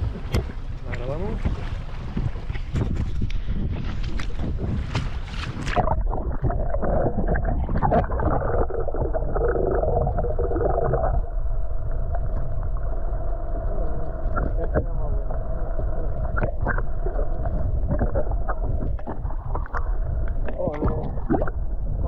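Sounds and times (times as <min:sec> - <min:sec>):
underwater rush and bubbles: 0:00.0 - 0:22.0
water splashing: 0:00.0 - 0:22.0
wind: 0:00.0 - 0:22.0.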